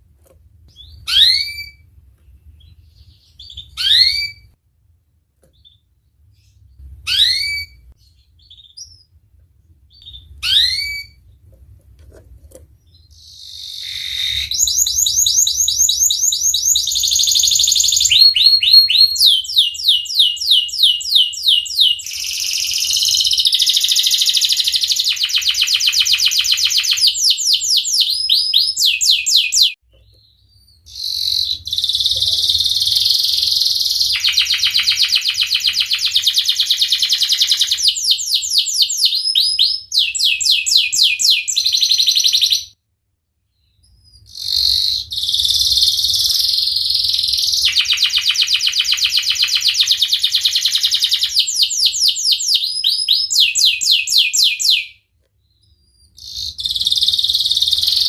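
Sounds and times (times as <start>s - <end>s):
canary chirps: 0.6s - 4.6s, 5.4s - 11.7s, 12.5s - 42.8s, 43.4s - 58.0s
canary singing trills: 0.7s - 1.9s, 2.5s - 4.6s, 5.5s - 9.2s, 9.9s - 11.4s, 12.8s - 42.8s, 43.5s - 58.0s.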